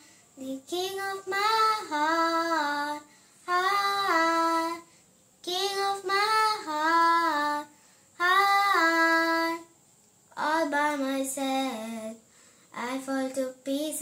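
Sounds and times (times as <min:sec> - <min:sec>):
girl singing unaccompanied: 0:00.0 - 0:14.0.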